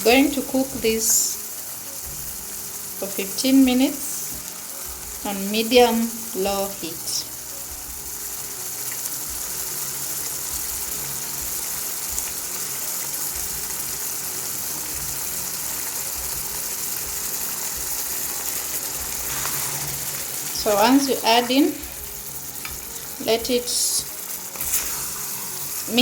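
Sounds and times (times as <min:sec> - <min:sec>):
chicken sizzling in curry sauce: 0:00.0 - 0:26.0.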